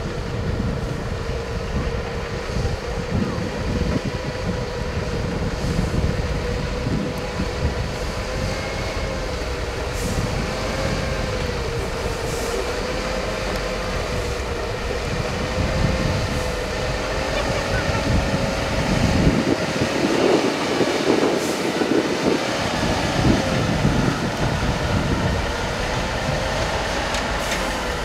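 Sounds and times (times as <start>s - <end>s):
truck engine rumble and whine: 0.0s - 28.0s.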